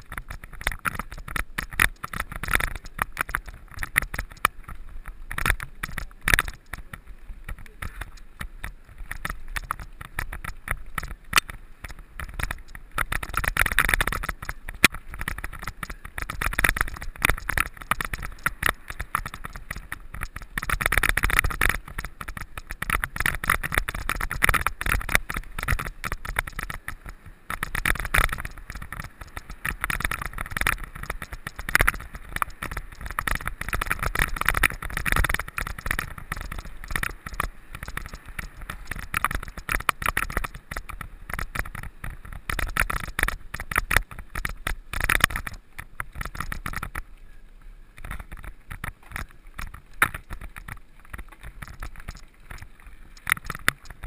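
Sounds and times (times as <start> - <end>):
bike frame rattling: 0.0 - 47.1, 47.9 - 54.0.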